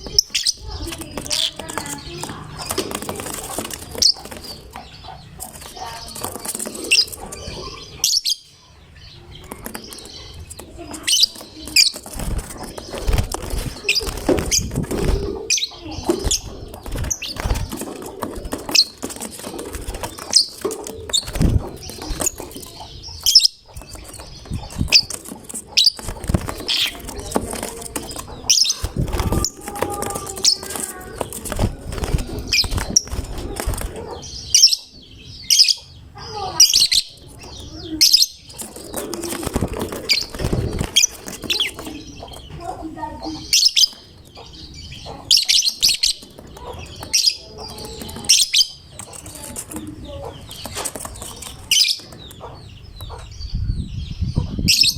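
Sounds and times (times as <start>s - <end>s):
wings flapping: 0.0s - 8.1s, 9.3s - 34.6s, 36.3s - 44.5s, 45.1s - 52.5s
lovebirds chirping: 0.0s - 54.9s.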